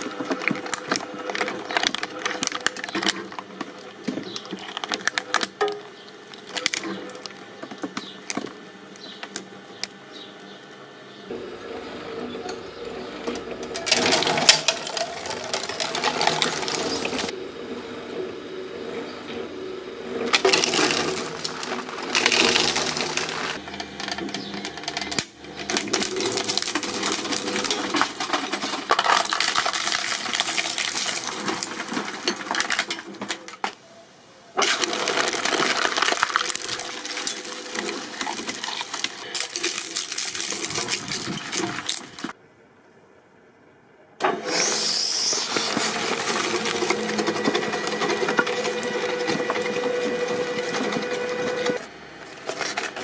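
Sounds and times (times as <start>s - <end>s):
shredding machines grinding: 0.0s - 8.4s, 11.3s - 33.7s, 34.6s - 42.4s, 44.3s - 53.0s.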